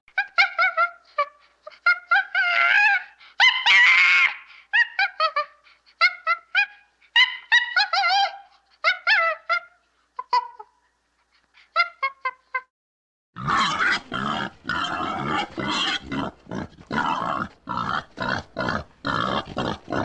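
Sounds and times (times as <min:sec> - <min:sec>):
chimpanzee hooting: 0:00.2 - 0:10.7, 0:13.4 - 0:20.0.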